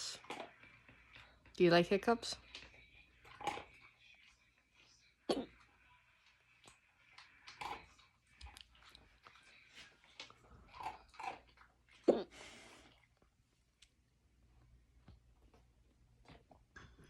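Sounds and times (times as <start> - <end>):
dogs crunching and chewing food: 0.0 - 17.0.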